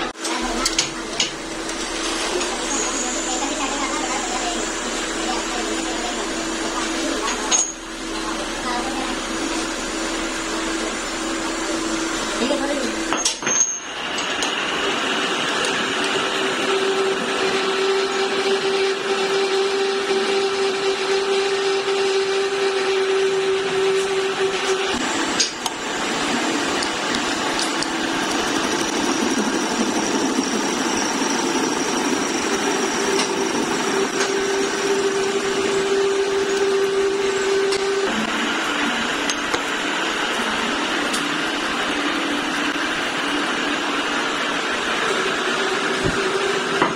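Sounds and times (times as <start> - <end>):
metal lathe cutting steel: 0.0 - 46.9.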